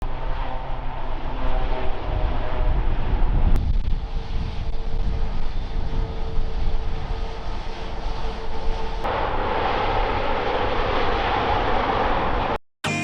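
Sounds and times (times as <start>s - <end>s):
wind rumble on microphone: 0.0s - 12.6s
jet engine whine: 0.0s - 13.0s.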